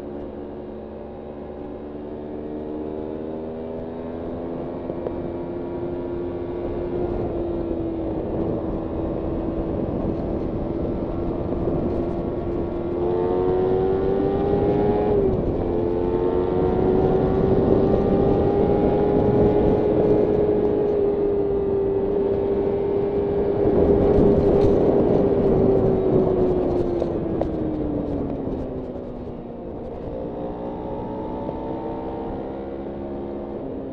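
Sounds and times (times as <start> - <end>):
motorcycle engine at high revs: 0.0 - 33.9
wind noise: 2.2 - 33.9.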